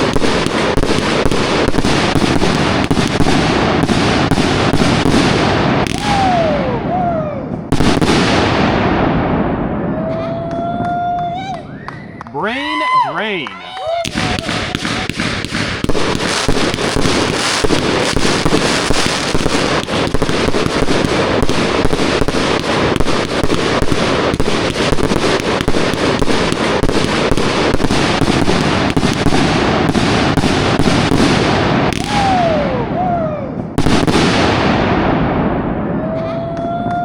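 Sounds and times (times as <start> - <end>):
fireworks launching and bursting: 0.0 - 37.0.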